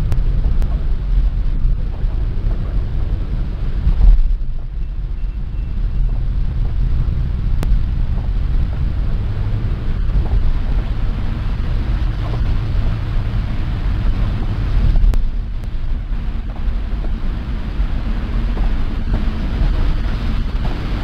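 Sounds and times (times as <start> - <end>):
bus engine and tyre rumble: 0.0 - 21.0.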